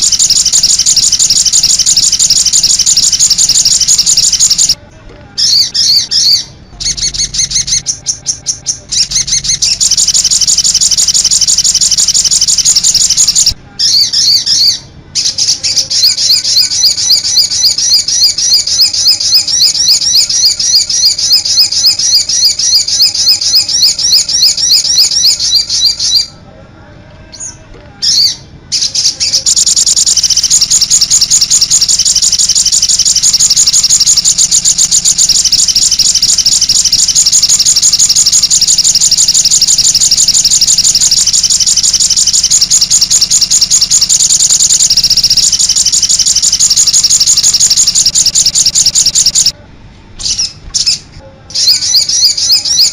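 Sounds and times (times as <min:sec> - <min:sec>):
fast high chirps and trills: 0:00.0 - 0:04.8, 0:05.4 - 0:26.3, 0:28.0 - 0:49.6, 0:50.3 - 0:52.9
songbird chirping: 0:00.0 - 0:04.8, 0:05.4 - 0:26.5, 0:27.3 - 0:49.6, 0:50.2 - 0:52.9.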